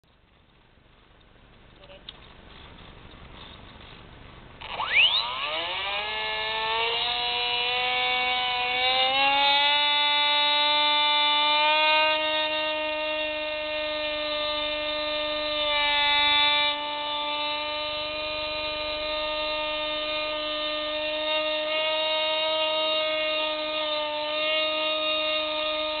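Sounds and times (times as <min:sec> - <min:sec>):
drone motors and propellers whining: 0:01.9 - 0:26.0.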